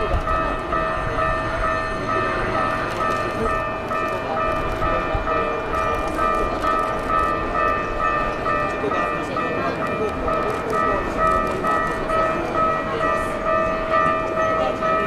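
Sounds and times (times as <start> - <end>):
railway crossing bell: 0.0 - 15.0
train running: 0.0 - 15.0.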